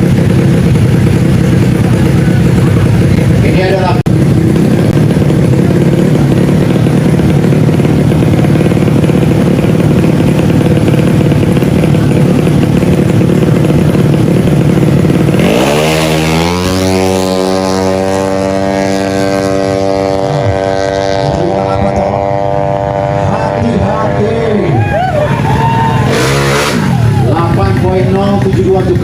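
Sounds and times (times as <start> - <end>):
scooter engine revving up: 0.0 - 29.0
scooter engines running loud: 0.0 - 29.0.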